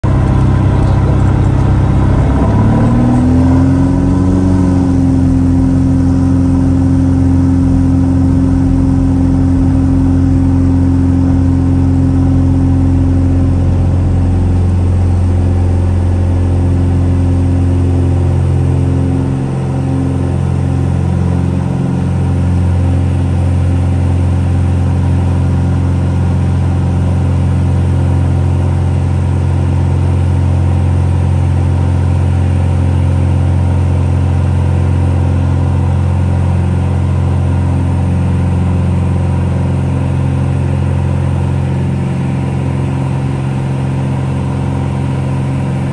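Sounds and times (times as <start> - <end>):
propeller aircraft engine drone: 0.0 - 45.9.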